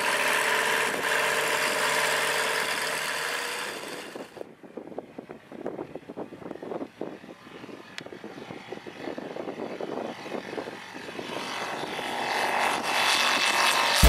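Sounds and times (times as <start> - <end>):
light aircraft engine and propeller: 0.0 - 14.0.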